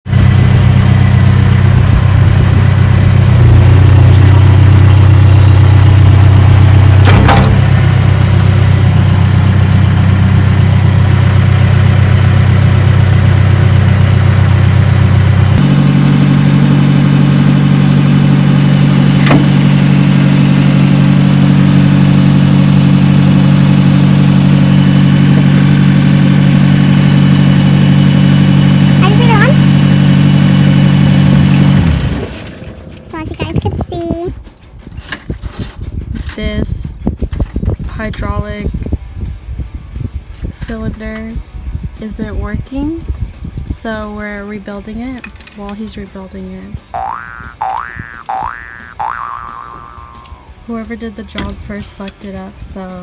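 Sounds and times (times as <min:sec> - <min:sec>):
backhoe engine running: 0:00.0 - 0:35.4, 0:42.6 - 0:53.0.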